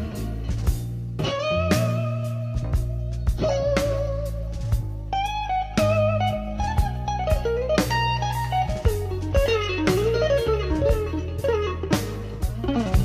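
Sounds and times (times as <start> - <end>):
bluesy electric guitar lead: 0.0 - 13.0
regular beat: 0.0 - 13.0.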